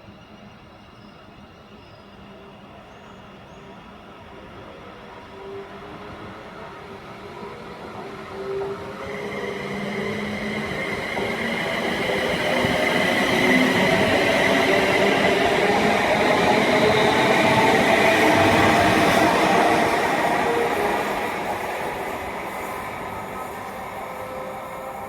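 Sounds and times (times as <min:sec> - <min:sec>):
train approaching: 0:00.0 - 0:25.0.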